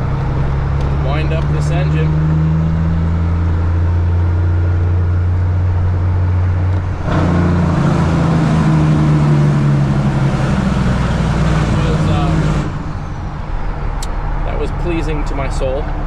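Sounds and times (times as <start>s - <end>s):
diesel truck engine accelerating: 0.0s - 16.0s.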